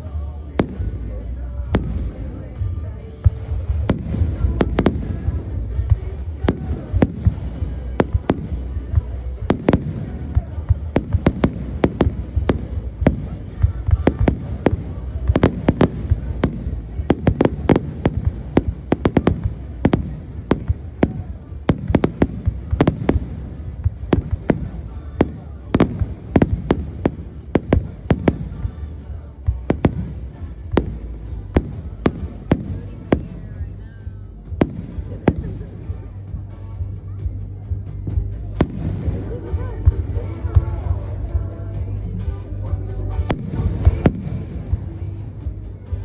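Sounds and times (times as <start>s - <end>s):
continuous low rumble: 0.0s - 46.0s
fireworks bangs and pops: 0.0s - 46.0s.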